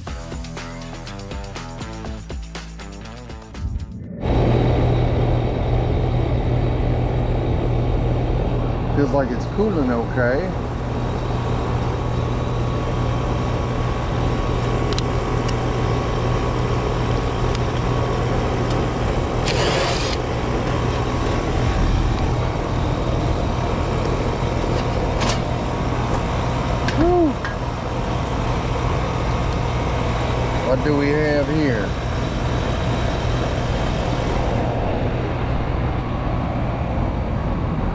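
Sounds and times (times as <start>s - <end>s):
condenser fan rushing: 4.0s - 37.9s
air conditioner compressor hum: 4.2s - 37.9s.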